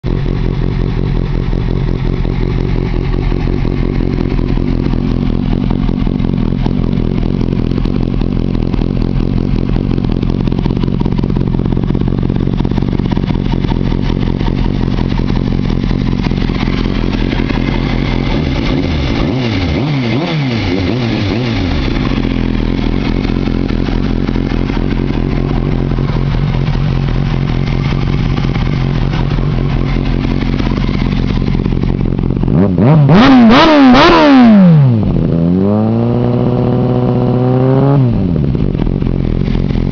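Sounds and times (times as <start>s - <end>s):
engine throttle blips: 0.0s - 39.9s
motorcycle engine idling: 0.0s - 39.9s.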